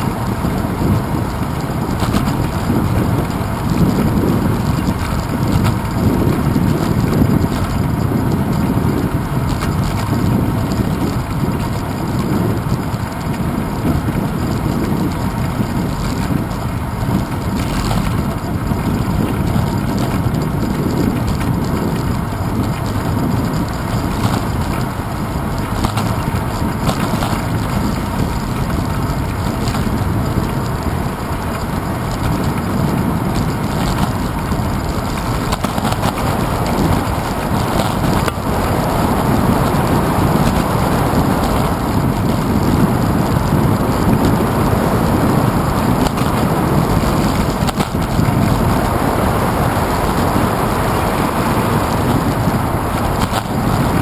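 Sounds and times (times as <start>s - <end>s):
tyres rumbling over paving stones: 0.0s - 54.0s
wind buffeting microphone: 0.0s - 54.0s.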